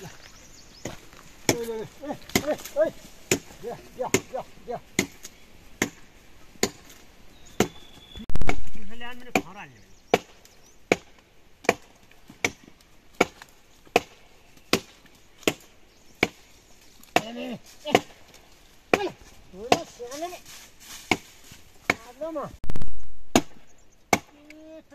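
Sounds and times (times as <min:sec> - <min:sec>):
blade chopping wood: 0:00.8 - 0:07.0, 0:07.6 - 0:09.5, 0:10.1 - 0:16.4, 0:17.1 - 0:20.0, 0:21.0 - 0:22.1, 0:22.8 - 0:24.6.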